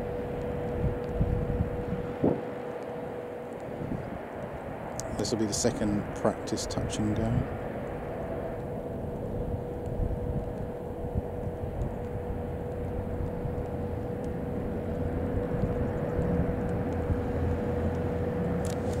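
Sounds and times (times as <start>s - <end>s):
turboprop aircraft drone: 0.0s - 19.0s.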